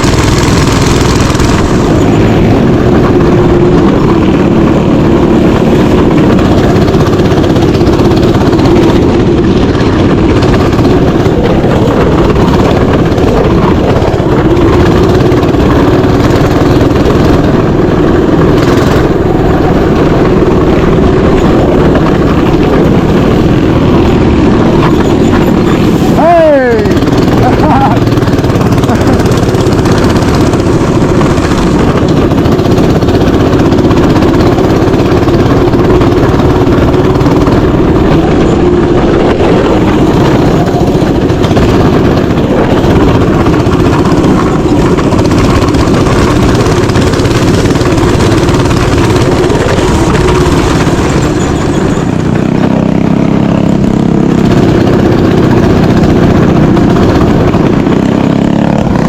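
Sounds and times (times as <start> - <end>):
mini bike engine running: 0.0 - 59.0.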